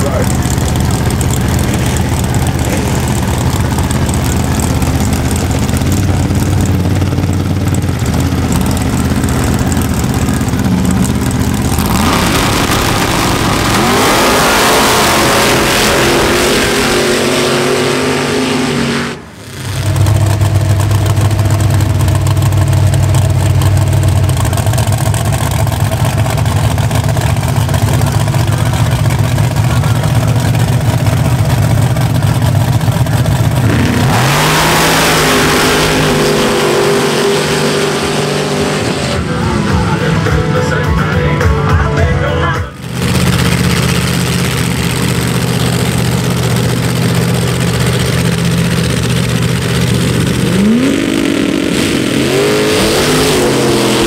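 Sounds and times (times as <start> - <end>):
truck engine idling loudly: 0.0 - 54.0
truck engine revving: 0.0 - 54.0.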